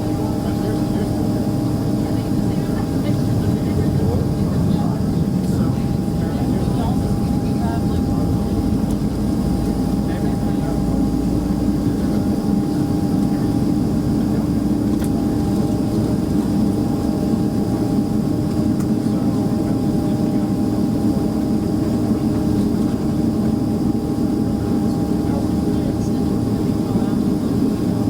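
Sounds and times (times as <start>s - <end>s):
jet engines in cabin: 0.0s - 28.0s.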